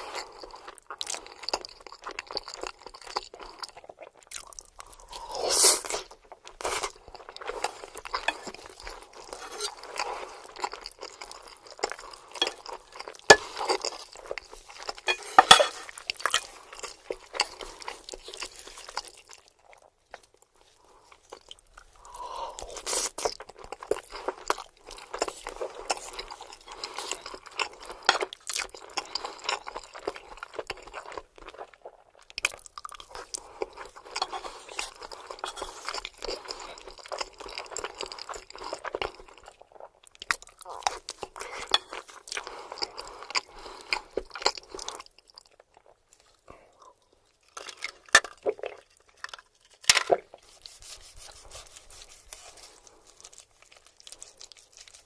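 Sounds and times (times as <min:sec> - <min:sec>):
close chewing and biting: 0:00.0 - 0:55.0.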